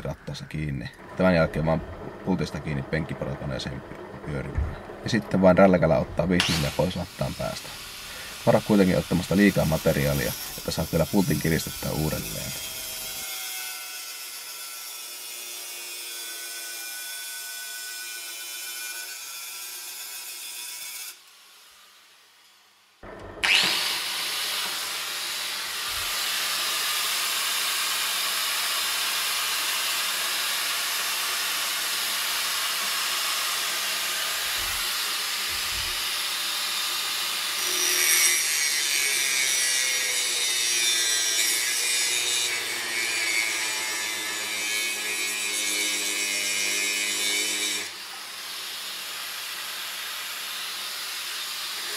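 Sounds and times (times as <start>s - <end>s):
angle grinder grinding metal: 0.0s - 51.9s.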